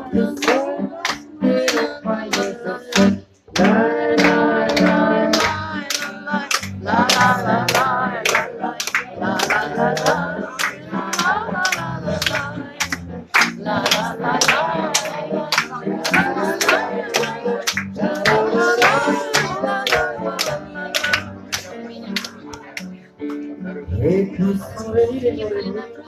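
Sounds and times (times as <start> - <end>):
voices singing: 0.0 - 22.8, 23.8 - 26.0
people clapping in rhythm: 0.0 - 23.6.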